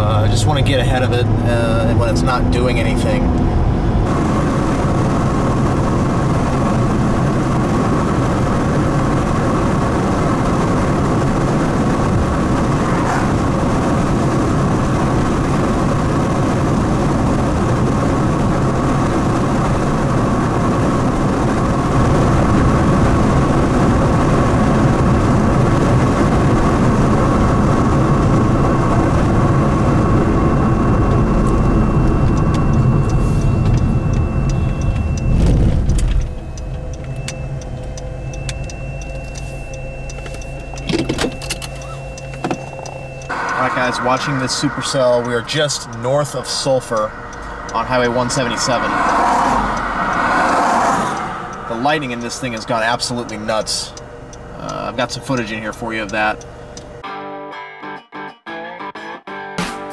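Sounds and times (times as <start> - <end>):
road and engine noise in car: 0.0 - 57.0.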